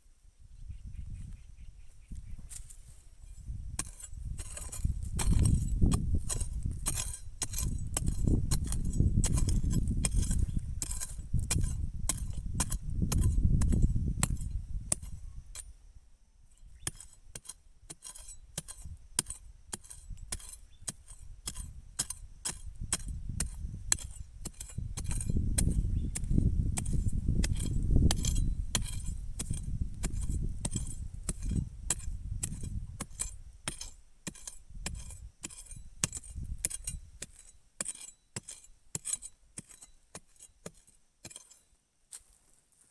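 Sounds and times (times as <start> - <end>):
digging tool clinking on stones: 3.2 - 15.8, 16.6 - 41.8.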